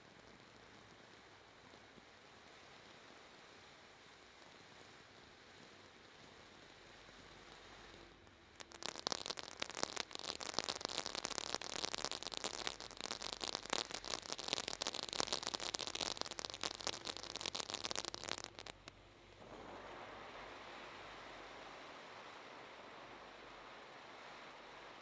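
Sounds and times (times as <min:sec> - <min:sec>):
firework fountain crackling: 0:00.0 - 0:25.0
firework fountain hissing: 0:00.0 - 0:25.0.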